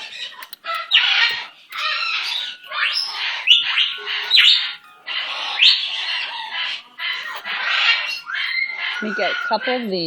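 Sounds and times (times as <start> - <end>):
bird squawking: 0.0 - 10.0.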